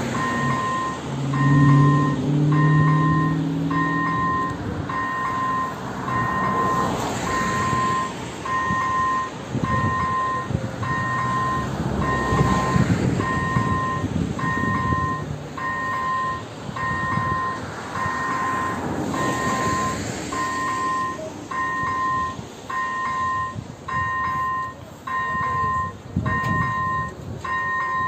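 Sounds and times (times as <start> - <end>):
level crossing warning beeps: 0.1 - 28.0.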